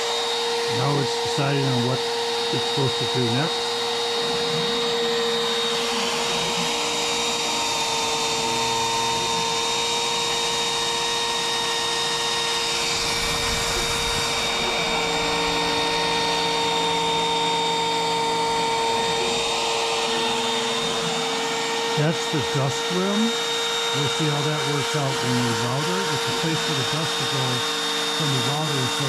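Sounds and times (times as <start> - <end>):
machine moving low tones: 0.0 - 29.0
router spindle high whine: 0.0 - 29.0.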